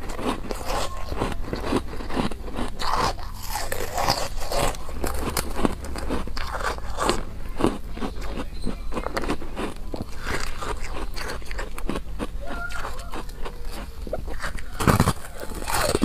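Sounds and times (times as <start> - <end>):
crisp chewing crunches: 0.0 - 16.0.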